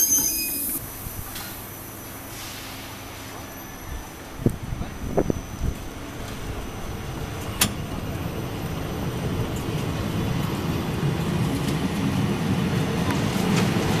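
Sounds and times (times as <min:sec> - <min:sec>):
electric train rolling: 0:00.0 - 0:14.0.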